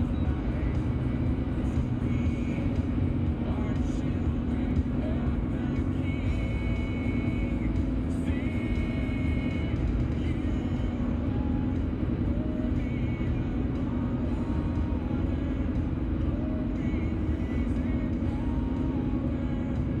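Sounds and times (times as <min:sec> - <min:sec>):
car road and engine rumble: 0:00.0 - 0:20.0
music playing: 0:00.0 - 0:20.0.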